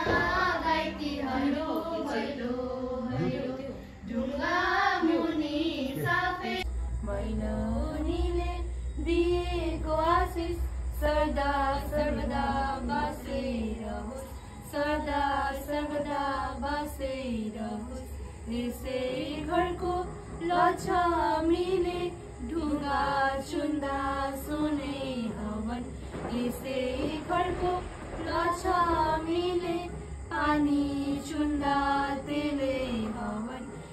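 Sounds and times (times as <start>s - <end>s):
low steady hum: 0.0s - 4.5s, 5.1s - 33.9s
women singing in unison: 0.0s - 33.9s.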